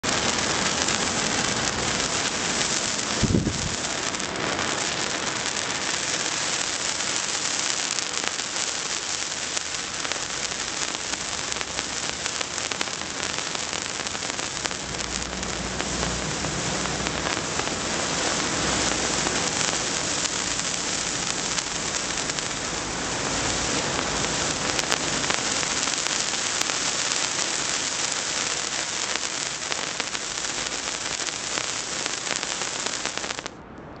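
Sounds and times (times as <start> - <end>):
firework hissing and crackling: 0.0 - 33.6.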